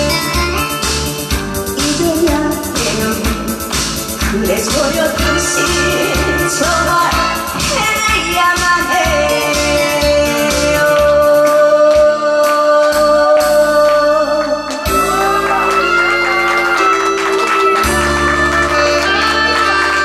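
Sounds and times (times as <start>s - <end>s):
music with steady beat: 0.0s - 20.0s
woman singing: 1.8s - 16.8s, 18.3s - 20.0s.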